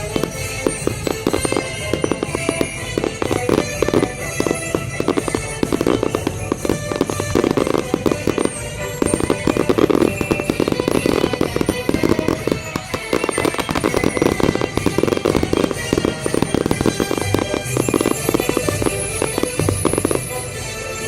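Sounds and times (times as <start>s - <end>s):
fireworks popping and crackling: 0.0s - 21.0s
music for fireworks show: 0.0s - 21.0s.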